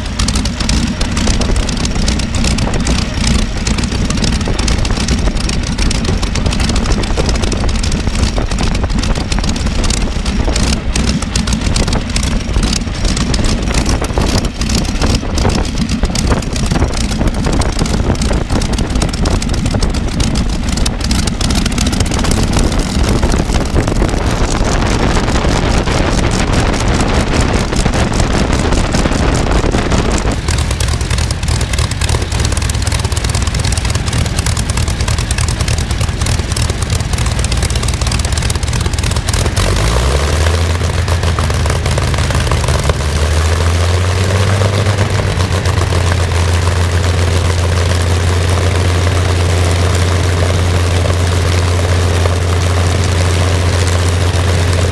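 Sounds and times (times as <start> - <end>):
aero engine running: 0.0 - 54.9.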